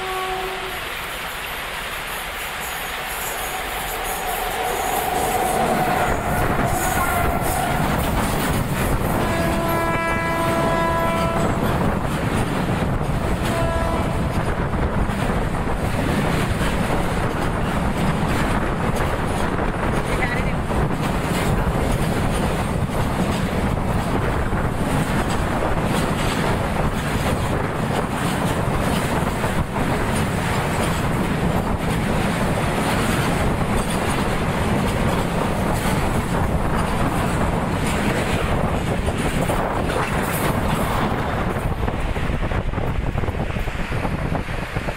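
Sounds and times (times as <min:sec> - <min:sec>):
train passing at speed: 0:00.0 - 0:44.9.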